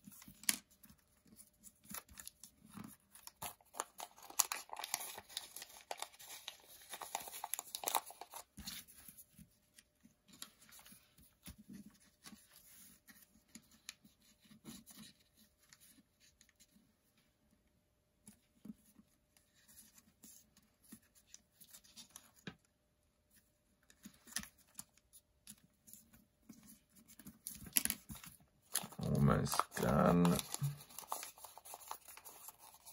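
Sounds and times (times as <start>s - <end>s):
paper crinkling and rustling: 0.0s - 16.9s, 18.3s - 22.7s, 23.3s - 32.9s.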